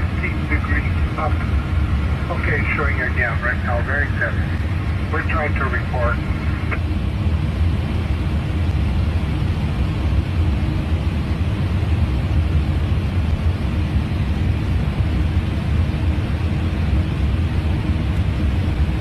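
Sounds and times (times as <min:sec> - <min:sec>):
airliner cockpit engine rumble: 0:00.0 - 0:19.0
faint steady hum: 0:00.0 - 0:19.0.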